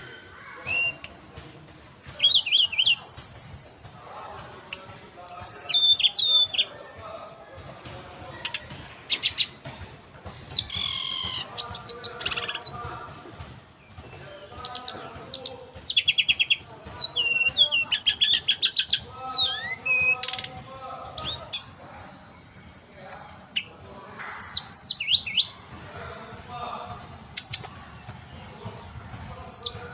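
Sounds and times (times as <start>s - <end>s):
songbird singing: 0.0s - 29.9s.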